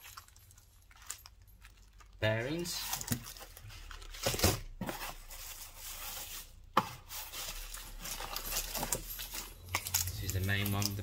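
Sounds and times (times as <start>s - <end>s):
plastic packaging crinkling: 0.0s - 6.0s, 7.2s - 11.0s.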